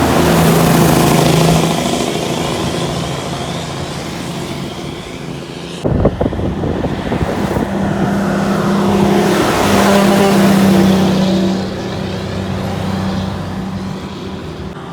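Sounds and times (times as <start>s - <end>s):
engine running close by: 0.0s - 14.9s
heavy vehicle passing: 0.0s - 14.9s.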